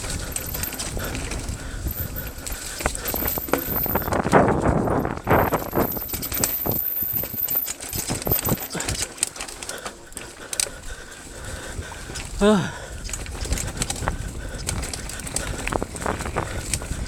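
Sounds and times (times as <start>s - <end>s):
bike rattling over rocky trail: 0.0s - 17.0s.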